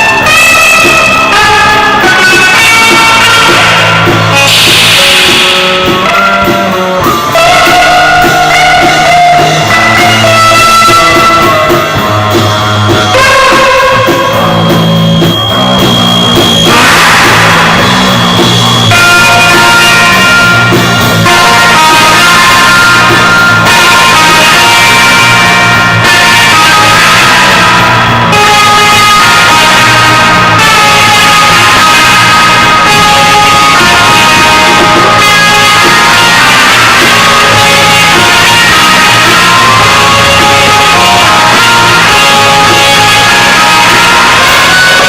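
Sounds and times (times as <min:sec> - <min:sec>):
loud rock band: 0:00.0 - 0:45.0.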